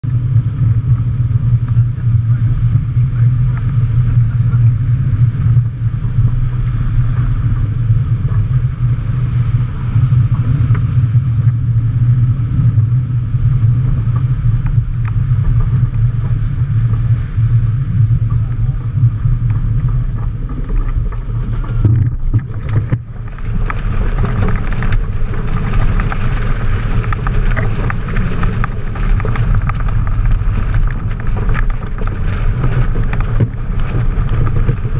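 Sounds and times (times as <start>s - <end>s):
water rushing along hull: 0.0s - 34.9s
wind buffeting microphone: 0.0s - 34.9s.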